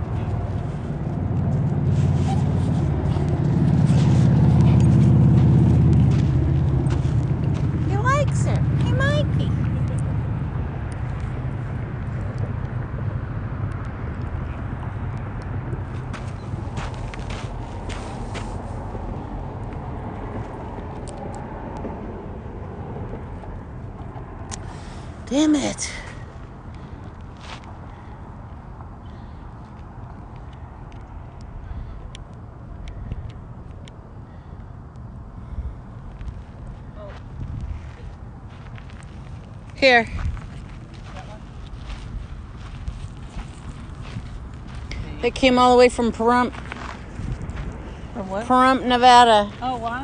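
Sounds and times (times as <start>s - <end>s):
vehicle engine rumble: 0.0s - 50.0s.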